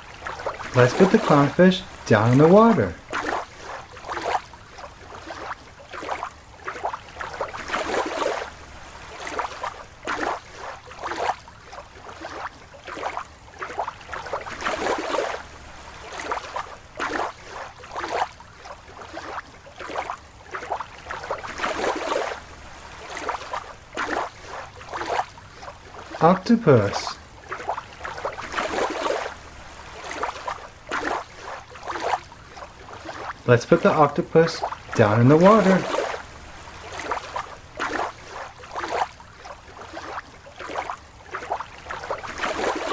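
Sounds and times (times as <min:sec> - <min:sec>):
water sloshing and splashing: 0:00.0 - 0:42.9.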